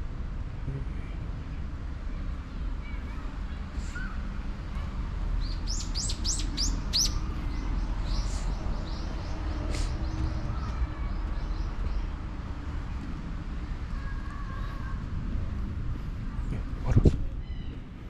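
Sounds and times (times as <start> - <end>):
steady low rumble: 0.0 - 18.0
small birds chirping: 2.2 - 15.1, 15.9 - 18.0.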